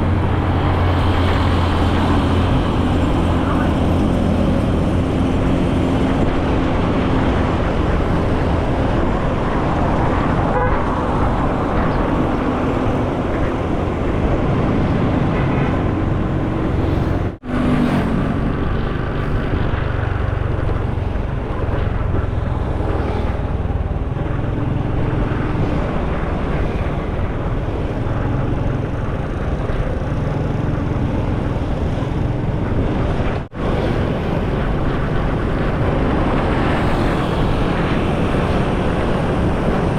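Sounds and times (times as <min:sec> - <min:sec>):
rushing wind: 0:00.0 - 0:39.9
tyre road noise: 0:00.0 - 0:39.9.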